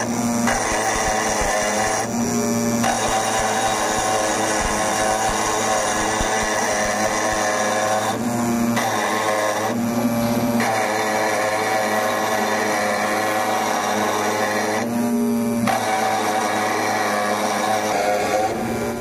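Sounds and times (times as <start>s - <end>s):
engraving spindle whine: 0.0s - 19.0s.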